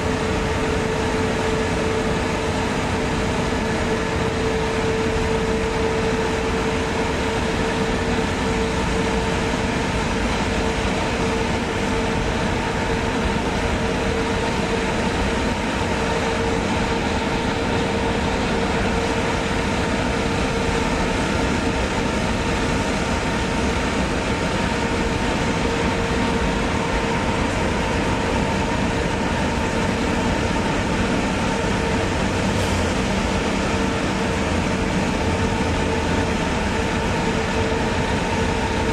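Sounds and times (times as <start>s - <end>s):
constant droning hum: 0.0s - 38.9s.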